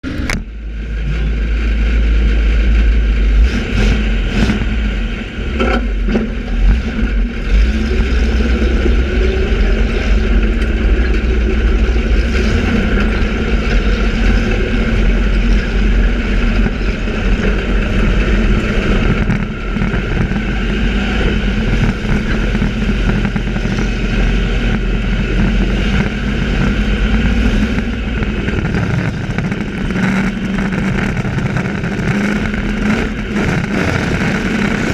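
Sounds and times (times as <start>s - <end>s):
racing truck engines rumbling: 0.0s - 34.9s.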